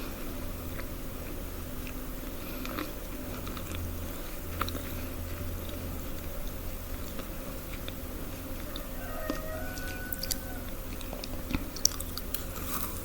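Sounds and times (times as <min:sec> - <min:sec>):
person chewing crunchy food: 0:00.0 - 0:13.0
steady low hum: 0:00.0 - 0:13.0.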